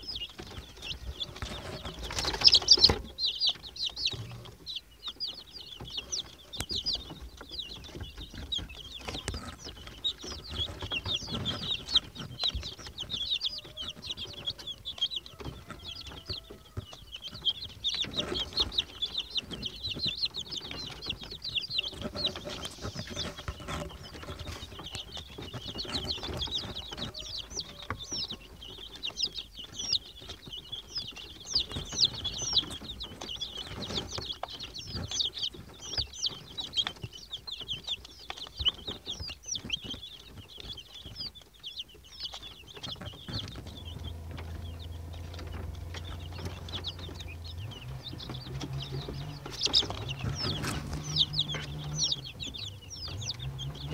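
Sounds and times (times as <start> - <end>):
chicks peeping: 0.0 - 53.9.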